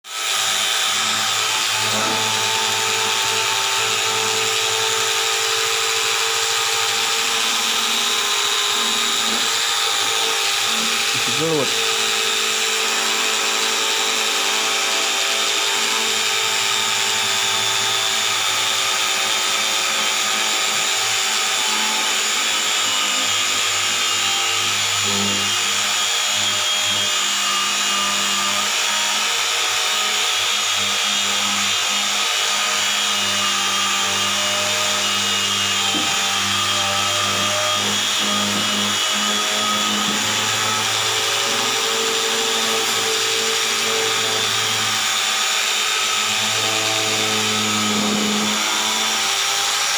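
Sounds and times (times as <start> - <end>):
electric grinder sharpening blade: 0.1 - 49.9.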